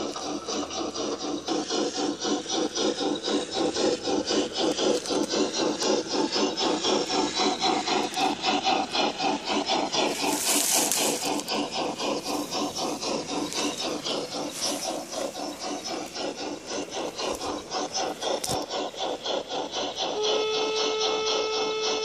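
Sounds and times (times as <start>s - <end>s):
steam hiss: 0.0s - 22.0s
steam locomotive exhaust chuffs: 0.0s - 22.0s.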